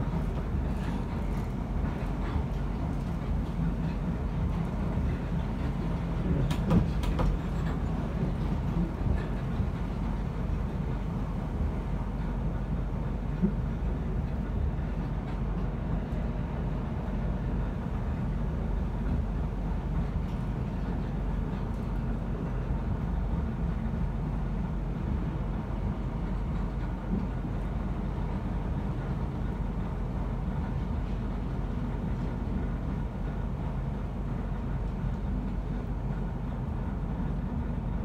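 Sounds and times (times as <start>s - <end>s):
train rumble inside carriage: 0.0s - 38.0s.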